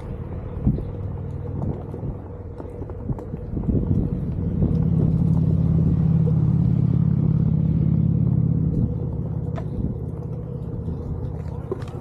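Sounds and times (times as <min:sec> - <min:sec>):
electric motor and tyre drone: 0:00.0 - 0:12.0.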